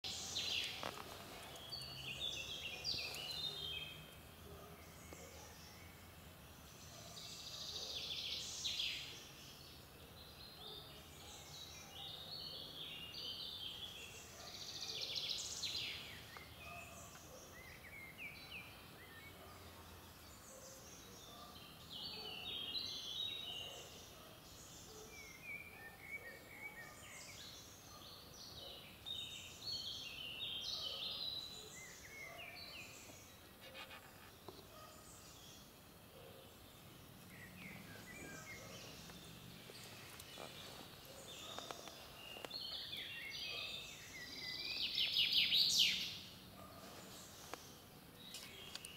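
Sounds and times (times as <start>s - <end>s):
songbirds singing: 0.0s - 48.9s
faint steady hiss: 0.1s - 48.9s.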